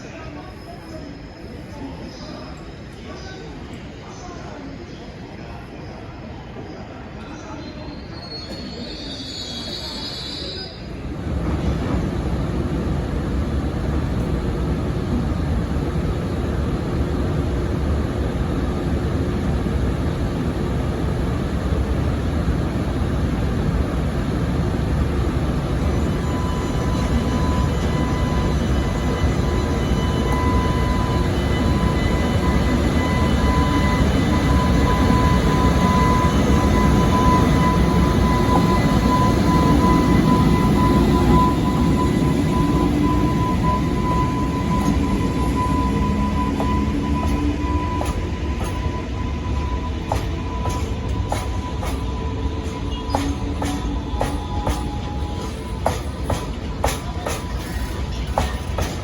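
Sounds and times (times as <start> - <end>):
train wheels rumbling: 8.1 - 59.0.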